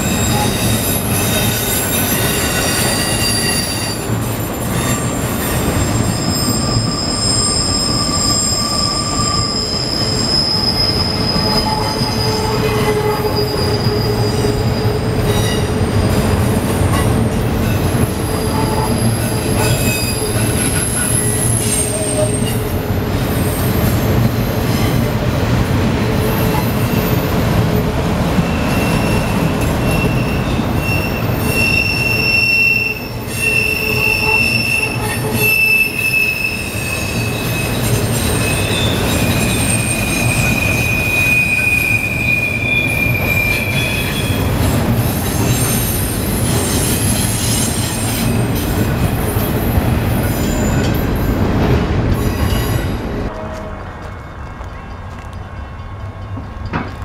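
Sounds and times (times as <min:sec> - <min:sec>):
train wheels squealing: 0:00.0 - 0:25.2, 0:26.2 - 0:51.4, 0:52.1 - 0:53.1
rumble and clatter of train cars: 0:00.0 - 0:57.0.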